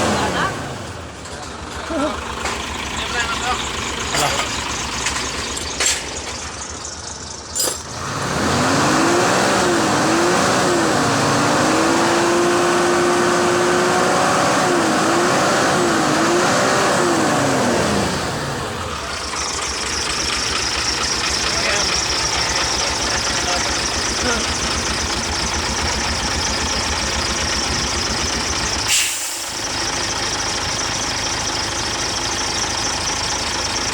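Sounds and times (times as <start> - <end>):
diesel engine revving: 0.0 - 33.9.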